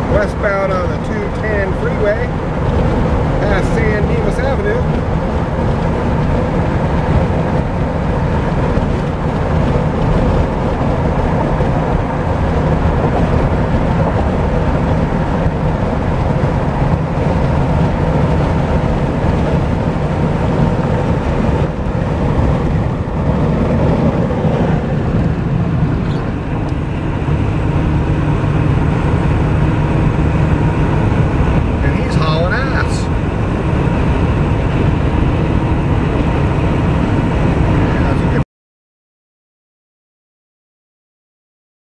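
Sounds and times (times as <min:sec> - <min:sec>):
car road noise from inside: 0:00.0 - 0:38.4.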